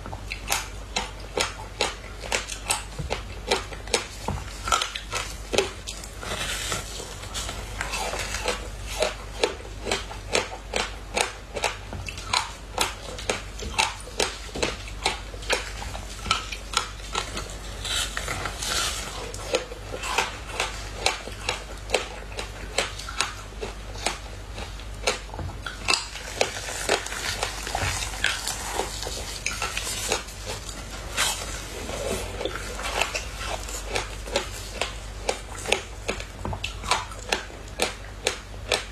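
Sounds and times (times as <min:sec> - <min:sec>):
crackly chewing: 0:00.0 - 0:38.9.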